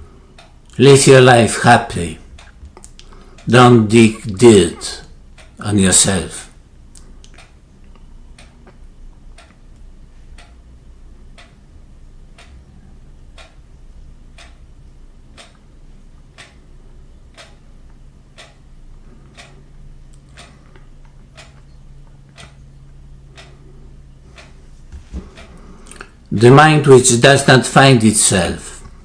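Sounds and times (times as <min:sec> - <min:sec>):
clock ticking: 0:00.1 - 0:29.0.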